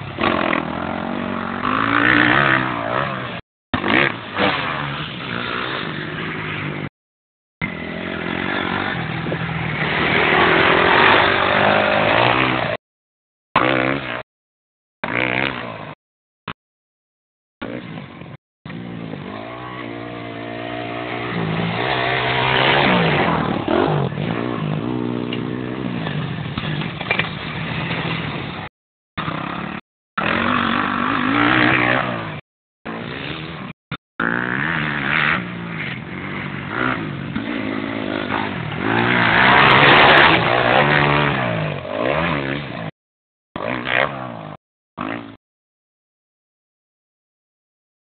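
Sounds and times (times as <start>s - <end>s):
motocross bike engines revving: 0.0s - 6.9s, 7.6s - 12.8s, 13.6s - 14.2s, 15.0s - 16.0s, 17.6s - 42.9s, 43.6s - 45.4s.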